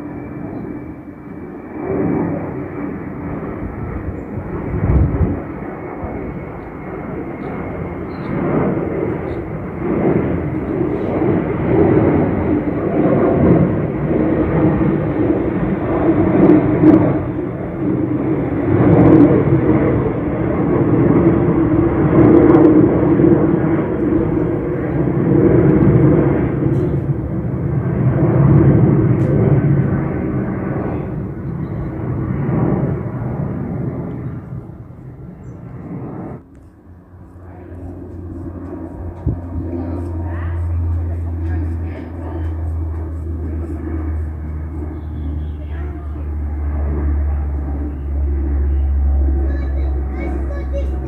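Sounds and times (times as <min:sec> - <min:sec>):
jet engine roar: 0:00.0 - 0:51.0.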